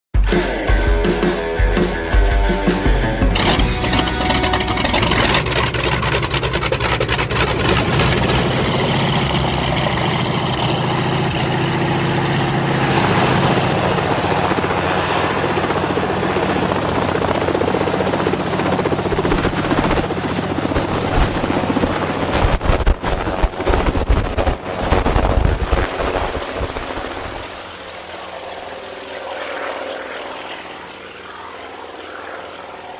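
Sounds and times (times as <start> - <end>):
helicopter engine and rotor: 3.3 - 32.9.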